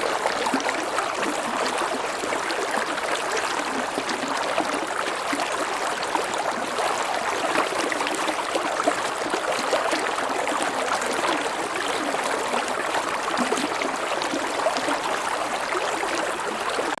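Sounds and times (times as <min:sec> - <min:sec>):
water running over waterfall: 0:00.0 - 0:17.0.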